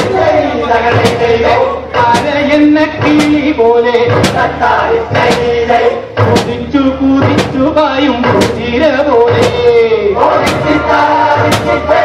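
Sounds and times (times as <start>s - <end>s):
voices singing chant-like lines: 0.0s - 6.6s, 8.2s - 12.0s
music with strong beat: 0.0s - 12.0s.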